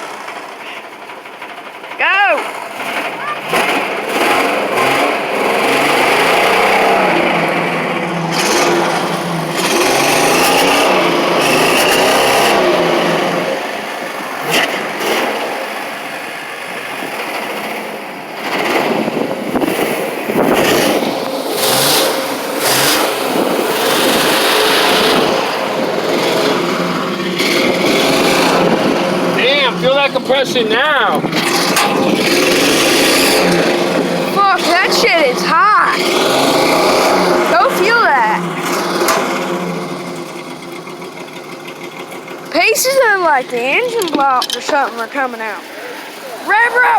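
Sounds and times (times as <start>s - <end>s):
van engine revving hard: 0.0s - 46.9s.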